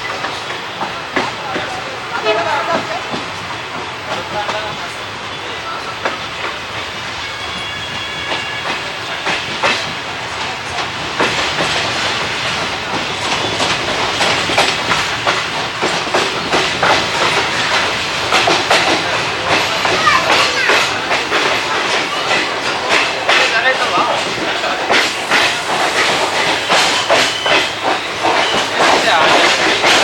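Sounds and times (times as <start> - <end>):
train wheels clattering on rails: 0.0 - 30.0.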